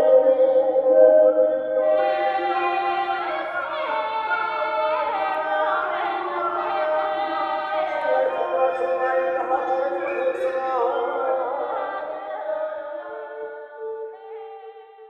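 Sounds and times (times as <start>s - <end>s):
choir voices holding notes: 0.0s - 15.0s.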